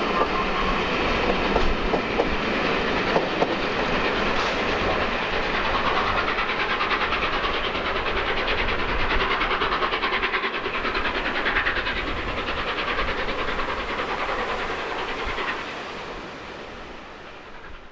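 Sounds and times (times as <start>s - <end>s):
steam train running by: 0.0s - 17.9s.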